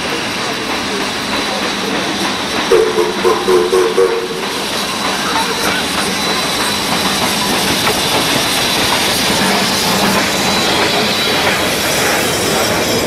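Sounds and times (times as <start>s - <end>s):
carriages rolling on rails: 0.0s - 13.0s
steam locomotive passing: 0.0s - 13.0s.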